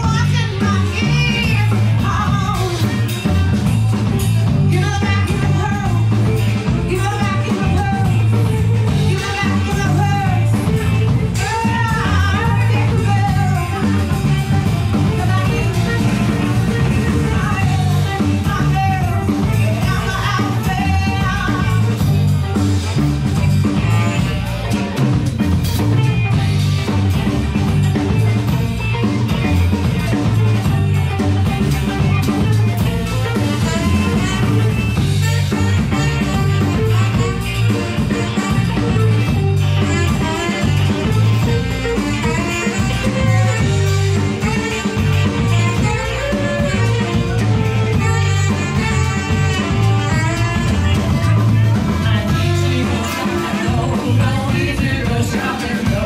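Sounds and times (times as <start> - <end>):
drum kit: 0.0 - 56.0
electric guitar: 0.0 - 56.0
saxophone: 0.0 - 56.0
person singing: 4.6 - 23.0, 28.9 - 56.0.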